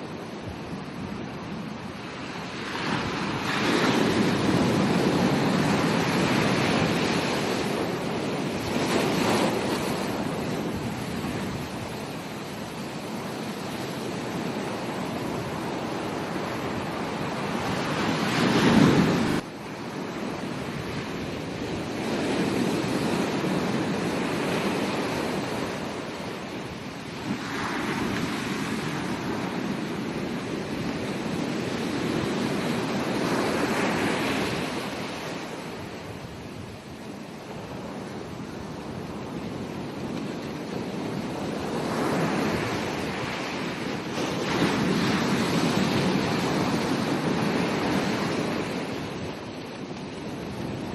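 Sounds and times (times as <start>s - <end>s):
ocean surf breaking: 0.0s - 50.9s.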